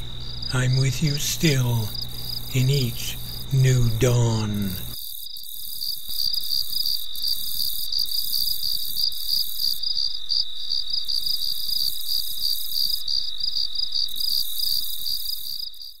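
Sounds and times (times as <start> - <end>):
crickets chirping: 0.0 - 16.0
high insect hiss: 0.0 - 16.0.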